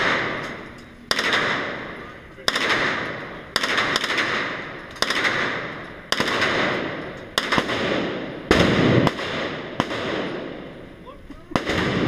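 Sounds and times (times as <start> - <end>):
gunshots echoing indoors: 0.0 - 10.9, 11.5 - 12.0.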